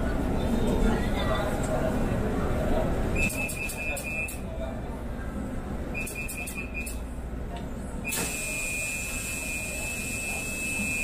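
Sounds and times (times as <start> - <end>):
light-rail train rumble: 0.0 - 11.0.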